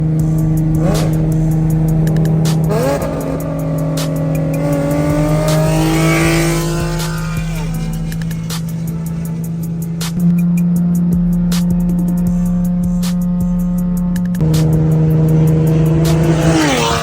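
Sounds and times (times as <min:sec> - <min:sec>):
car engine revving loudly: 0:00.0 - 0:17.0.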